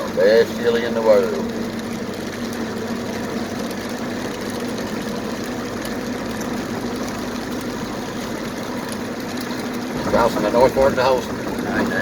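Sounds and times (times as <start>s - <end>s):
engine running: 0.0s - 12.0s
tyres on road: 0.0s - 12.0s.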